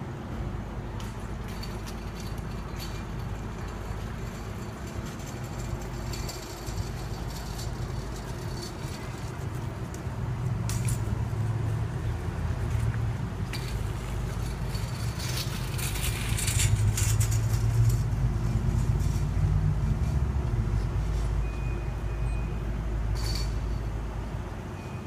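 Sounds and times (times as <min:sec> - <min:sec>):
light rail train humming: 0:00.0 - 0:25.0.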